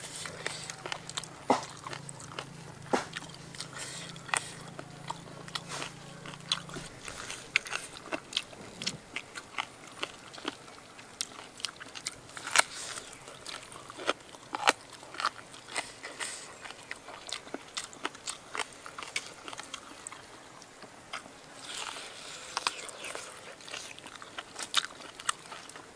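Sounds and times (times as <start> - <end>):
person chewing: 0.0 - 25.9.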